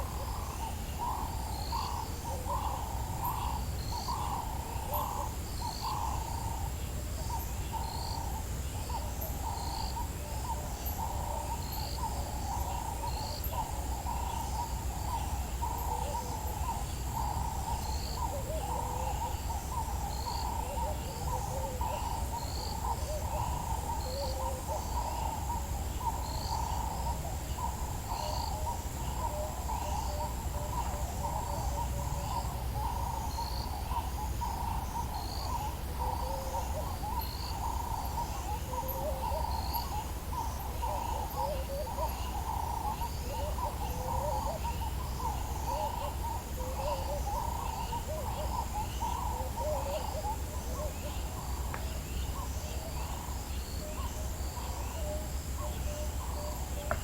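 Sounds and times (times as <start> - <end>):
many birds chattering: 0.0 - 57.0.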